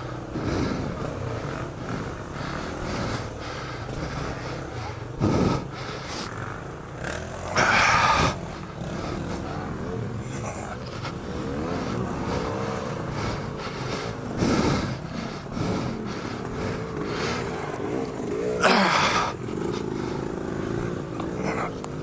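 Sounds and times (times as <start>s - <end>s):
off-road motorcycle engine: 0.0s - 22.0s.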